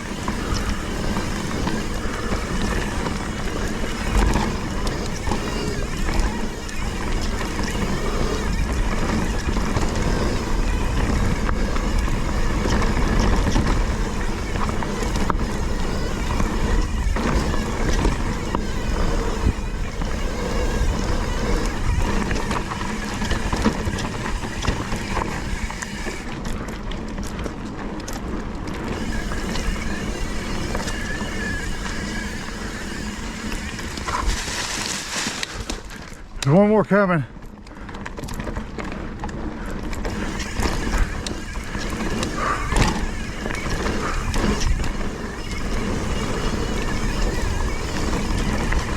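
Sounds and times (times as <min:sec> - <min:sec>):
mountain bike rattling on dirt trail: 0:00.0 - 0:48.9.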